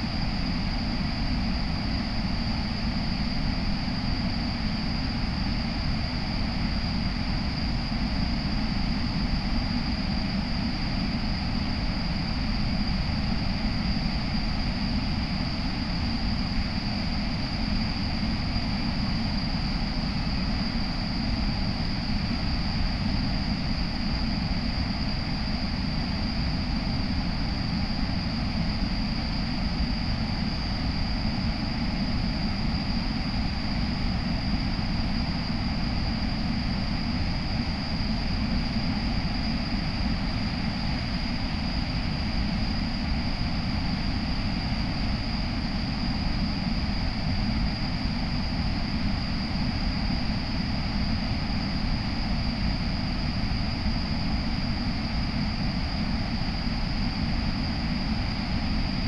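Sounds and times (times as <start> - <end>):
high-pitched whine: 0.0 - 59.0.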